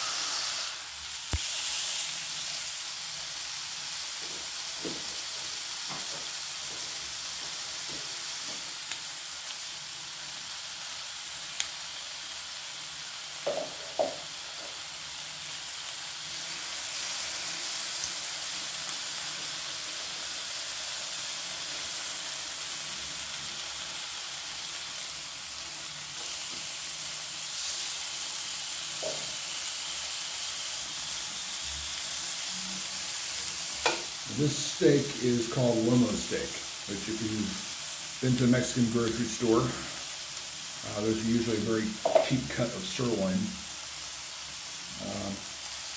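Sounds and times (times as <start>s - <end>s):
meat sizzling on grill pan: 0.0s - 45.9s.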